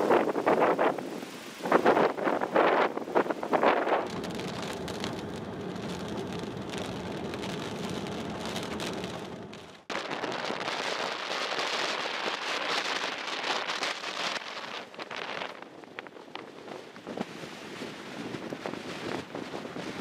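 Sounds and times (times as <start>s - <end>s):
wind in the open: 0.0s - 20.0s
wind rushing through trees: 0.0s - 20.0s.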